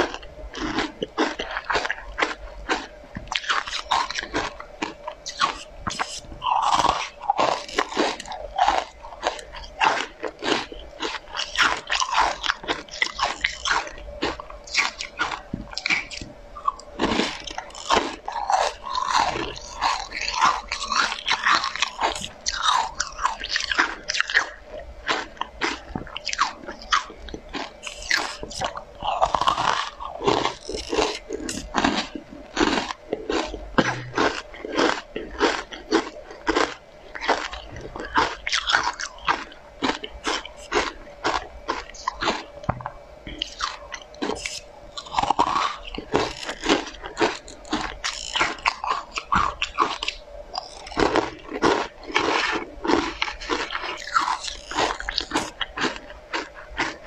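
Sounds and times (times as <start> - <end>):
crunching hard sweets: 0.0 - 57.0
faint steady hum: 0.0 - 57.0.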